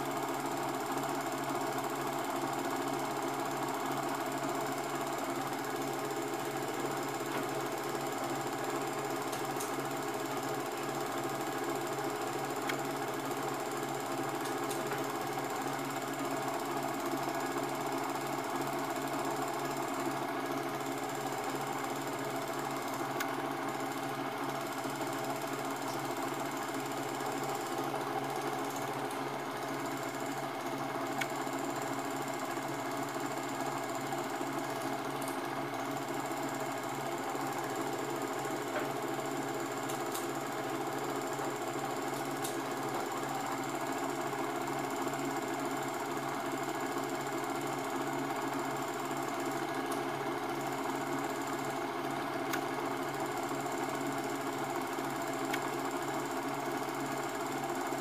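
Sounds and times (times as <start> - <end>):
film projector whirring: 0.0 - 58.0.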